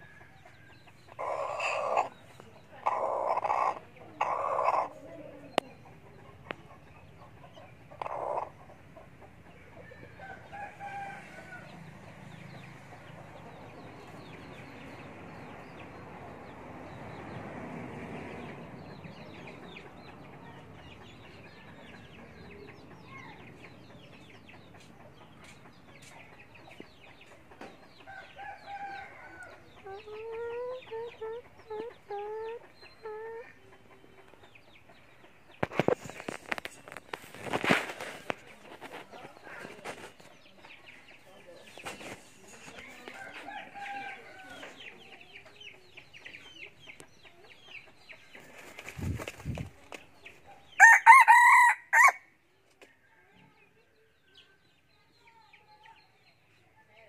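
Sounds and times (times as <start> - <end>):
chicken clucking and calling: 0.0 - 16.6, 18.4 - 52.8.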